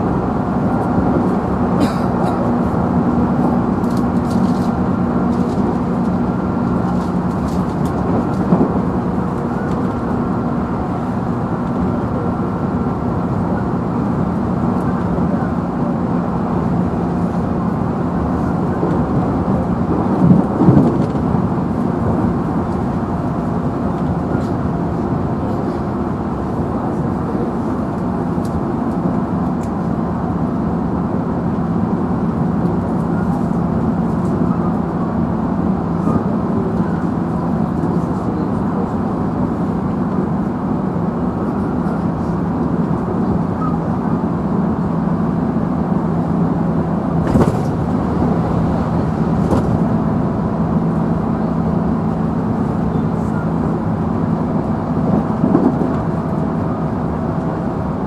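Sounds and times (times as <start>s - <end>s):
train motor hum: 0.0s - 58.0s
wheels rumbling on rail: 0.0s - 58.0s.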